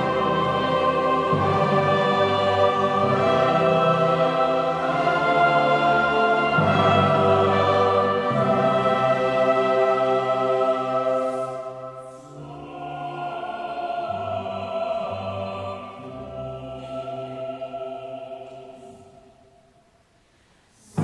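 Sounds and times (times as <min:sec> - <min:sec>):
church choir and orchestra: 0:00.0 - 0:21.0.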